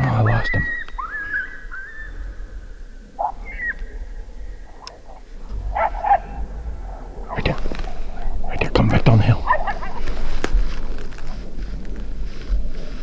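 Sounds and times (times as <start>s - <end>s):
coyote howling: 0.0s - 11.6s.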